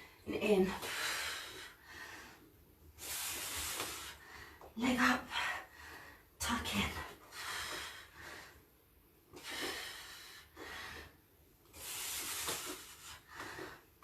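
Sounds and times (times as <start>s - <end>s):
woman breathing hard: 0.8s - 4.7s, 5.4s - 6.4s, 7.2s - 14.0s.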